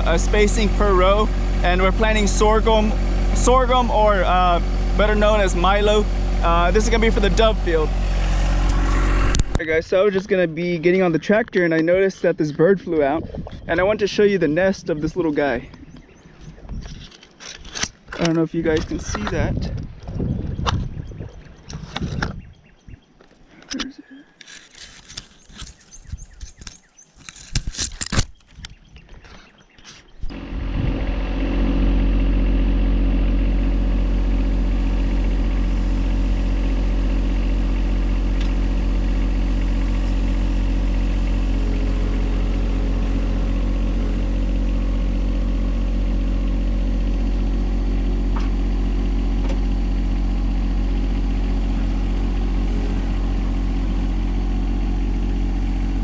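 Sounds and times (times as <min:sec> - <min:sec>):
tractor engine running: 0:00.0 - 0:27.4, 0:28.4 - 0:56.0.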